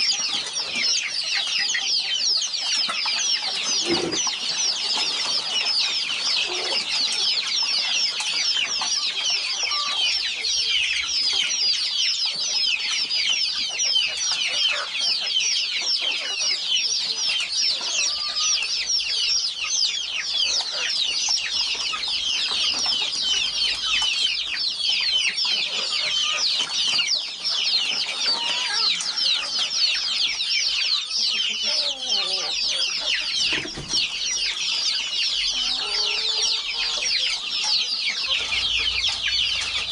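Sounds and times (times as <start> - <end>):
chicken clucks: 0.0 - 39.9
chickens peeping: 0.0 - 39.9.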